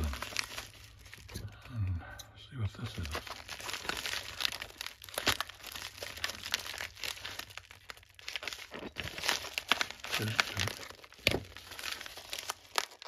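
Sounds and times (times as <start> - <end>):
plastic mailer crinkling: 0.0 - 1.8, 2.8 - 13.0.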